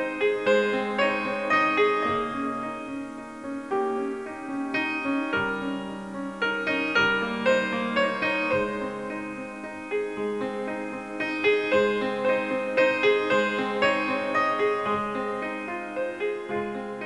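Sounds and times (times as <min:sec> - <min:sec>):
keyboard melody: 0:00.0 - 0:17.0.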